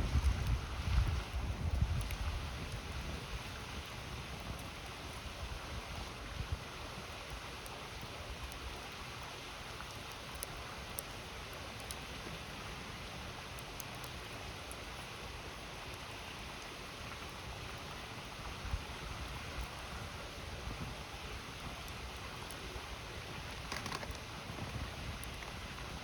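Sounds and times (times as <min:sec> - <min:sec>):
faint campfire crackles: 0:00.0 - 0:26.0
river flowing: 0:03.1 - 0:26.0.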